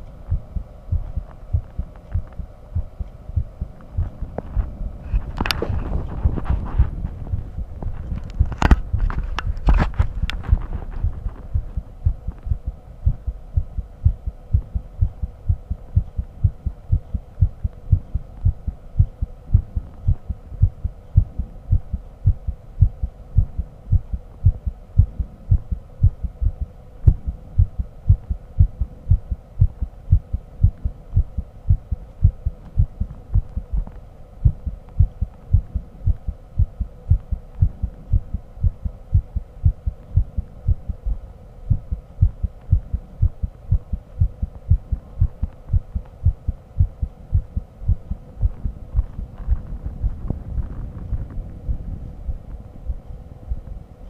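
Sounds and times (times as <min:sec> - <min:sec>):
heartbeat thuds: 0:00.0 - 0:53.9
faint steady hum: 0:00.0 - 0:54.0.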